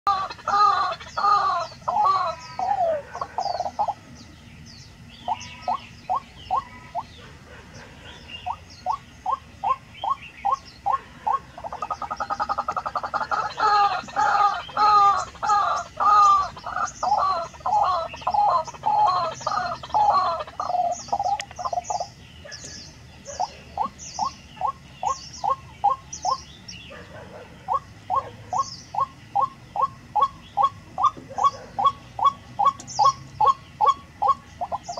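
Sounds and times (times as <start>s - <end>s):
waterhen calling: 0.1s - 4.2s, 5.0s - 7.4s, 8.0s - 34.9s.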